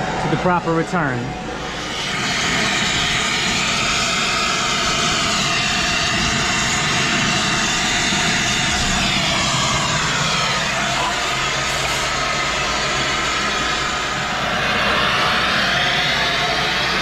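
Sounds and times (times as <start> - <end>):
torch flame hissing: 1.4 - 17.0.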